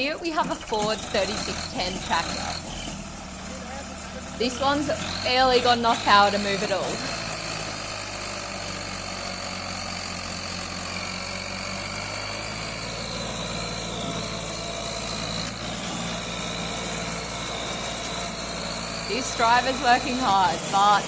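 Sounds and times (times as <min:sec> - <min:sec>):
tractor engine labouring: 0:00.0 - 0:21.0.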